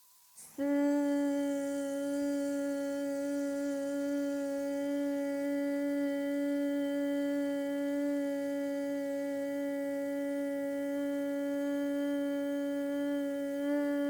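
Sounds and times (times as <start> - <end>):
woman humming a long note: 0.4 - 14.0.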